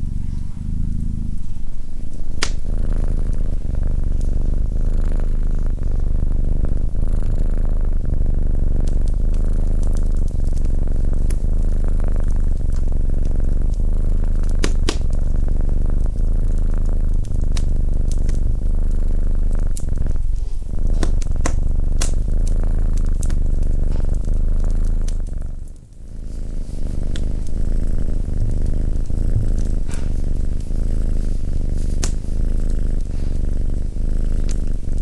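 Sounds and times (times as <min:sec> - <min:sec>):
cat purring: 0:00.0 - 0:35.0
wood fire crackling: 0:00.0 - 0:35.0.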